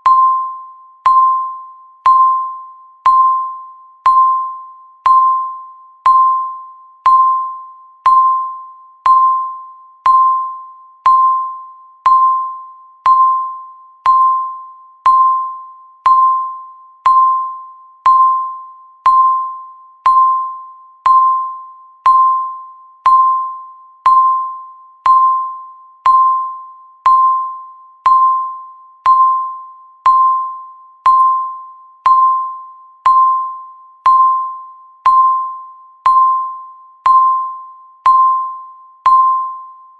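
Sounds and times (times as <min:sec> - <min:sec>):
timer tick pings: 0:00.0 - 0:39.9.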